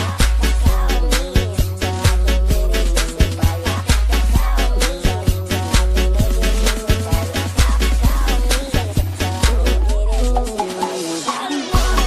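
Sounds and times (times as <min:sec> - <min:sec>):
dance music with heavy bass: 0:00.0 - 0:12.0.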